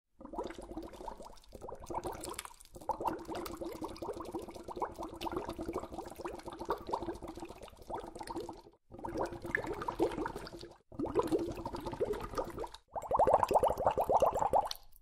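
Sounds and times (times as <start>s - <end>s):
water bubbling: 0.2s - 14.9s.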